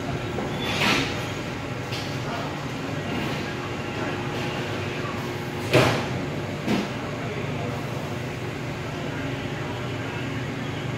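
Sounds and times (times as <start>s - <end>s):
machinery and ventilation hum: 0.0s - 10.9s.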